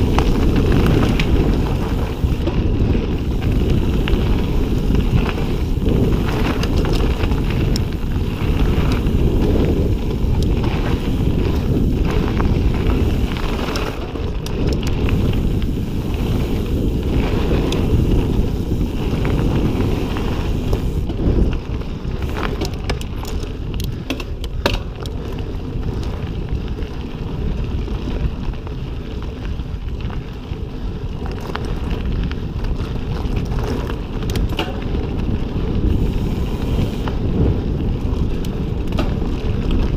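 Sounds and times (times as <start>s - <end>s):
bike clicks and rattles: 0.0s - 39.9s
tyres on dirt: 0.0s - 39.9s
wind buffeting microphone: 0.0s - 39.9s.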